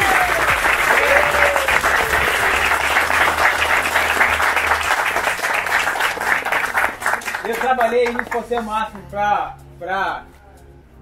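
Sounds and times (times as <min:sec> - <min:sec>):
crowd clapping: 0:00.0 - 0:09.1.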